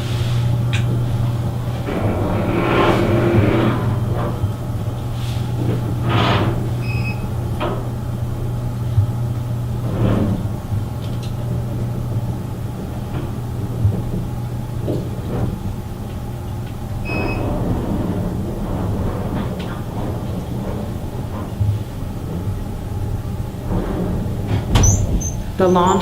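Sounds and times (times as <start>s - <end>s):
elevator humming: 0.0s - 26.0s
scraping rattling noises: 0.0s - 26.0s.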